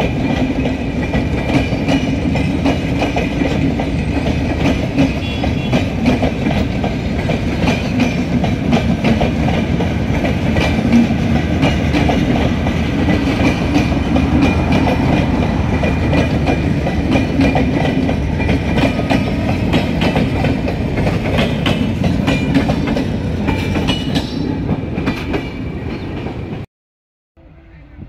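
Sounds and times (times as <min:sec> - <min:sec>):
train coaches rumbling past: 0:00.0 - 0:26.7.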